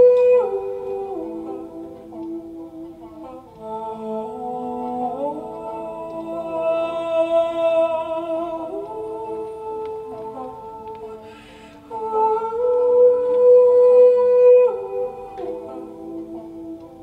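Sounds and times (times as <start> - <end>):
slow layered ambient music: 0.0 - 17.0.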